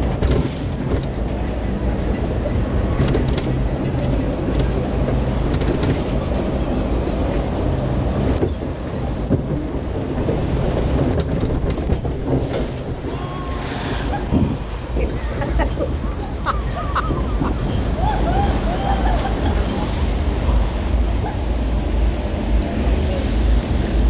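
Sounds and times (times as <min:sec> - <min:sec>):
lift conveyor rumble and clatter: 0:00.0 - 0:24.0.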